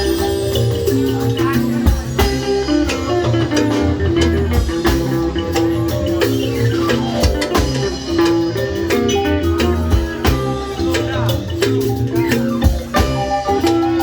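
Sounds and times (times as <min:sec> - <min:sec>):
bass line: 0:00.0 - 0:14.0
drum beat: 0:00.0 - 0:14.0
plucked guitar: 0:00.0 - 0:14.0.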